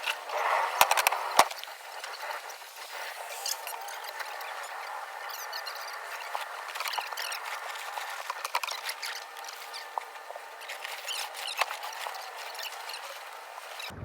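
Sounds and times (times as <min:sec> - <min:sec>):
sailcloth rustling and crinkling: 0:00.0 - 0:13.9
rigging clicks and squeaks: 0:00.0 - 0:14.0.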